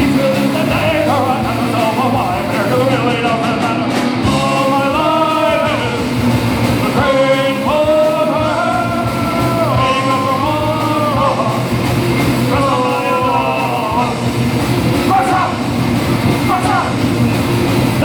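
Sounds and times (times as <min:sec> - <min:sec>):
live rock band playing: 0:00.0 - 0:18.0
singer holding long notes: 0:00.0 - 0:18.0.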